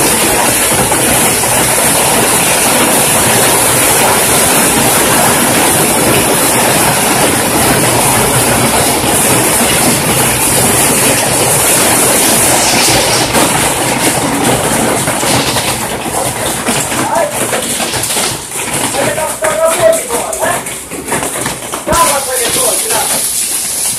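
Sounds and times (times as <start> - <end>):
hail clattering on pavement and roofing: 0.0 - 23.9.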